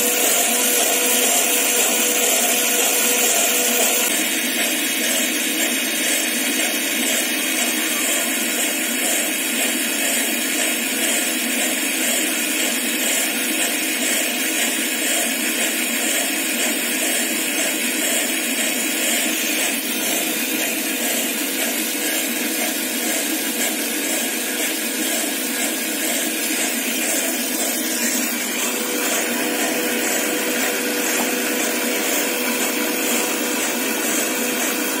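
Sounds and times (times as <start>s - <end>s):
machine running with mechanical whirr: 0.0s - 35.0s.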